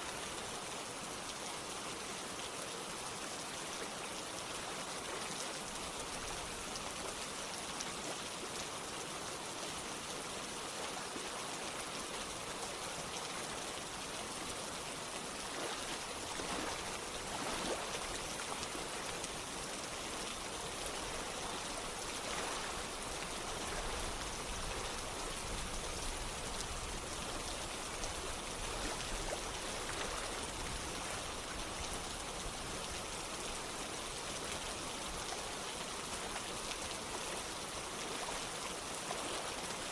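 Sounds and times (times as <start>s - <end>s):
rain falling: 0.0s - 39.9s
running water: 0.0s - 39.9s.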